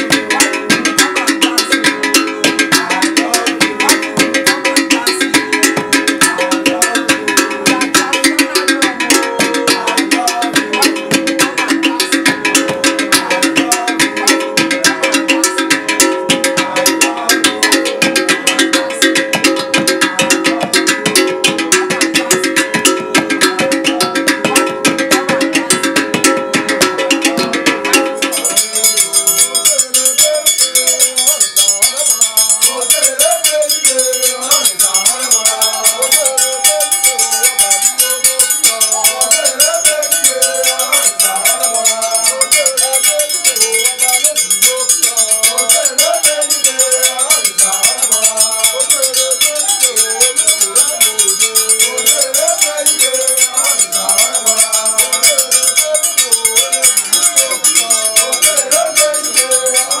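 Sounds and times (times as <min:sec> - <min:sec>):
iron bells struck with sticks: 0:00.0 - 1:00.0
men singing: 0:00.0 - 1:00.0.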